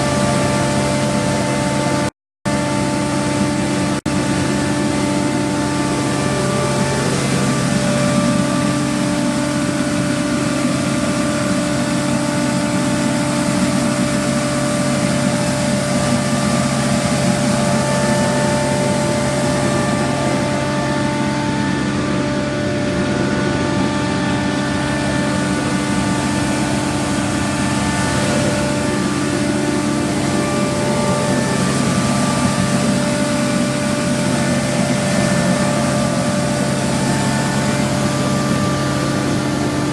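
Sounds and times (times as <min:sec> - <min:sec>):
street sweeper engine and blower: 0:00.0 - 0:39.9.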